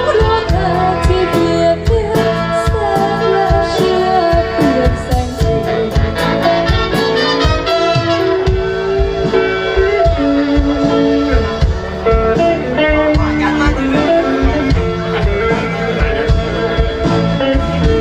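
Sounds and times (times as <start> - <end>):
bass: 0.0 - 18.0
gliding lead melody: 0.0 - 18.0
steady drum beat: 0.0 - 18.0.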